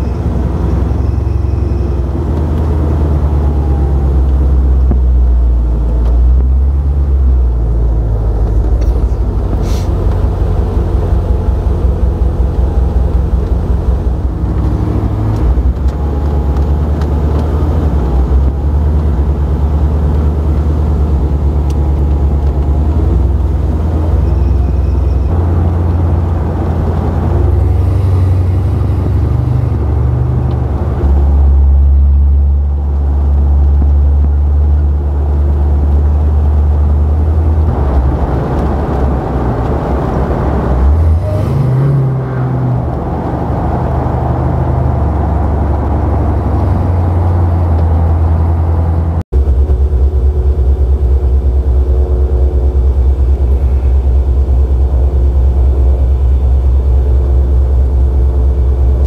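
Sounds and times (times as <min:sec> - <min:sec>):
car engine deep rumble: 0:00.0 - 0:59.0.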